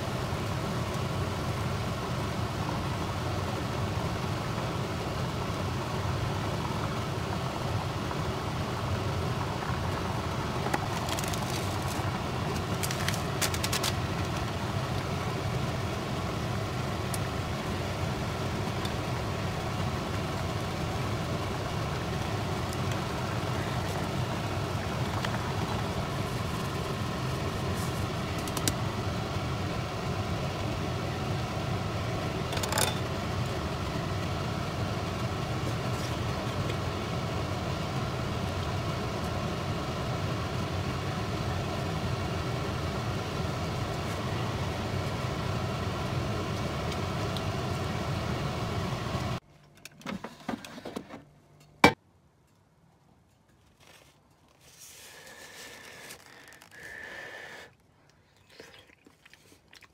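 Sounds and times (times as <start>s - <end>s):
induction cooktop humming: 0.0s - 53.5s.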